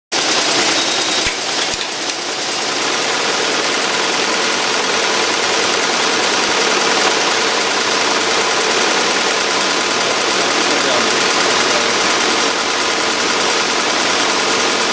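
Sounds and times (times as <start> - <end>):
embroidery machine stitching: 0.2 - 14.9.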